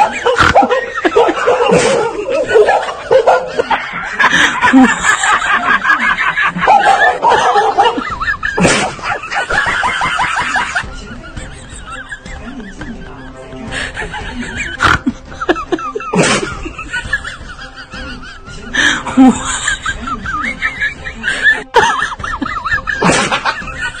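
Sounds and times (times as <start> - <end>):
person laughing: 0.0 - 24.0.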